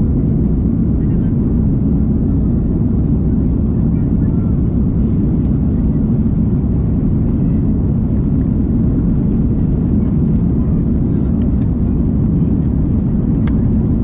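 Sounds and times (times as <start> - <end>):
airliner engines rumbling in cabin: 0.0 - 14.0.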